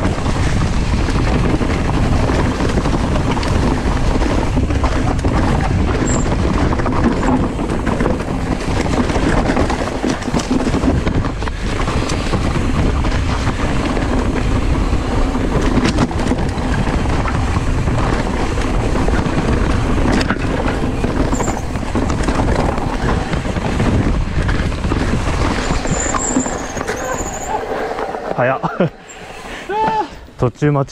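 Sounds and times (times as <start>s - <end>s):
bike knocks and rattles: 0.0s - 27.4s
bike tyres rumbling over dirt: 0.0s - 30.5s.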